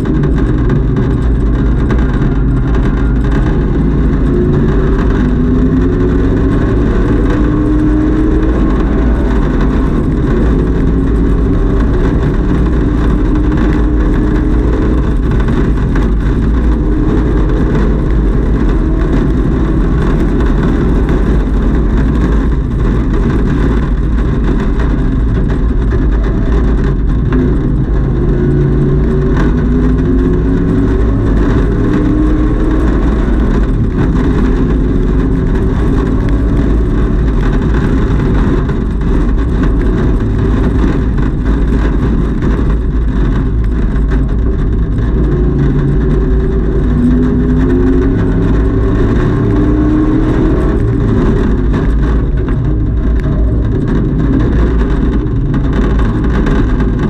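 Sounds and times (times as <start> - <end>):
heavy low rumble: 0.0 - 57.0
race car engine accelerating: 0.0 - 57.0.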